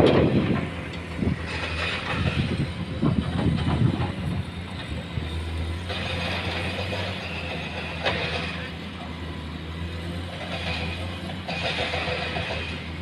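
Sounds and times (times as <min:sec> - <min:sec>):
diesel machinery humming: 0:00.0 - 0:13.0.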